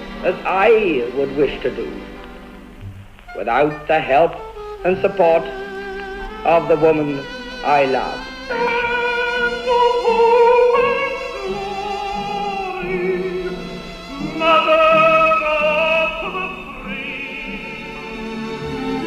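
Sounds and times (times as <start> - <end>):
operatic singing with vibrato: 0.0 - 2.5, 3.4 - 19.0.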